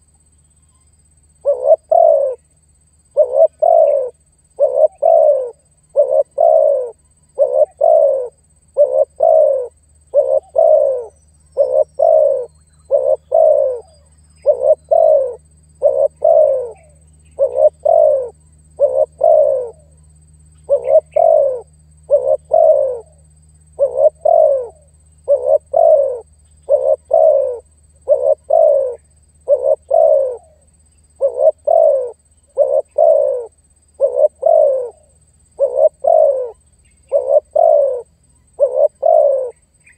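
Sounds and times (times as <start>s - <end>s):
faint steady hum: 0.0s - 39.9s
dove cooing: 1.4s - 2.5s, 3.1s - 39.9s.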